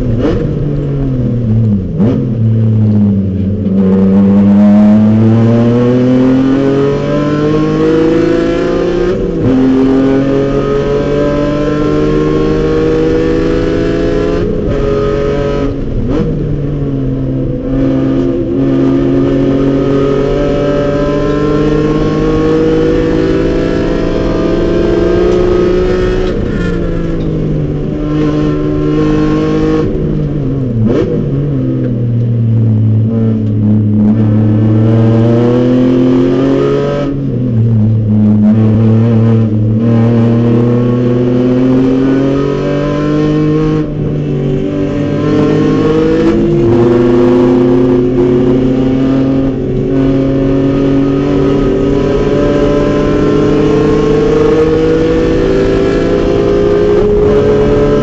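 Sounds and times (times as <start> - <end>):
race car engine revving: 0.0 - 58.0
wind and road noise: 0.0 - 58.0.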